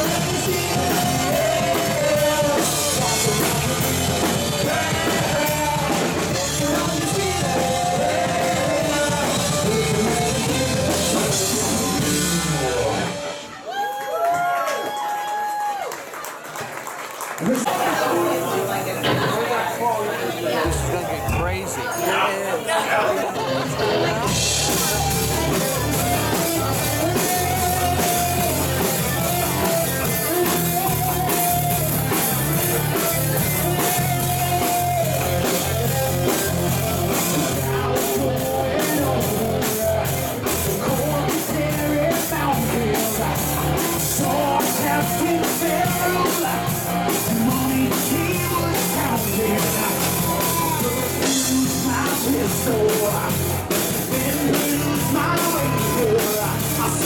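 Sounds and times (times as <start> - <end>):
man singing into microphone: 0.0 - 13.0, 23.4 - 57.0
rock band playing: 0.0 - 13.8, 20.4 - 57.0.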